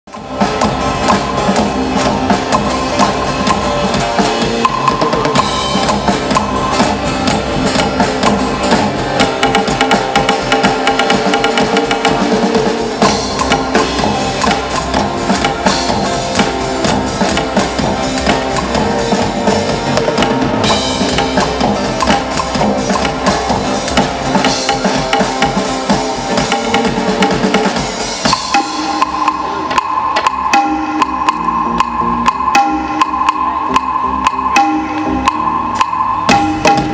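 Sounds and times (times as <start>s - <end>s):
drums and percussion beat: 0.1s - 36.9s.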